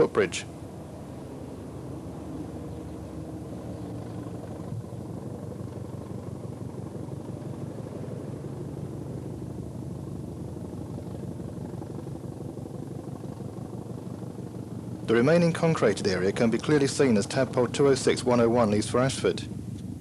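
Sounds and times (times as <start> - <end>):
diesel train engine rumbling: 0.0 - 20.0.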